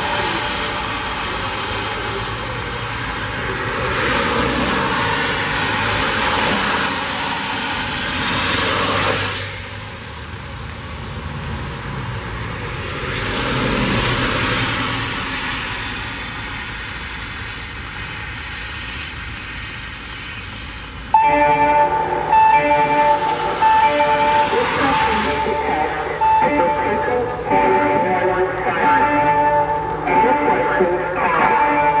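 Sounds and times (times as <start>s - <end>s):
car tyres hissing on wet road: 0.0s - 26.2s.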